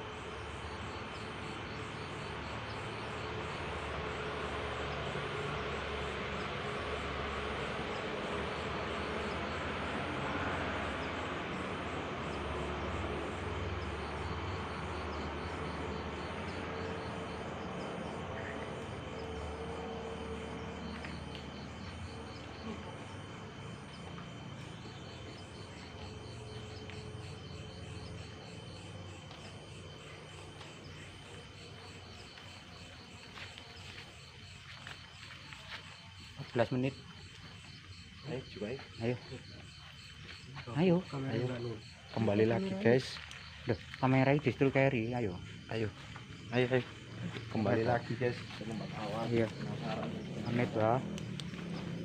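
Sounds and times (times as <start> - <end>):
insects chirping: 0.0 - 52.0.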